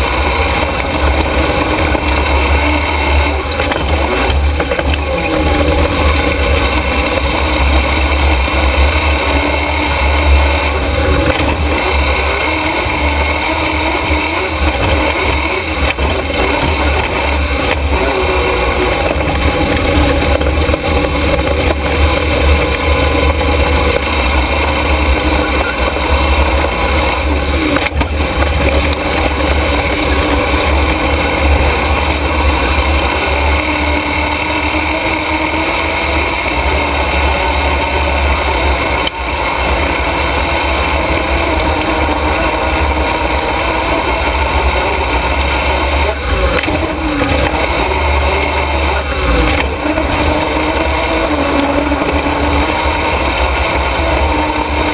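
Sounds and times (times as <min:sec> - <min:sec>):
race truck engine drone: 0:00.0 - 0:54.9.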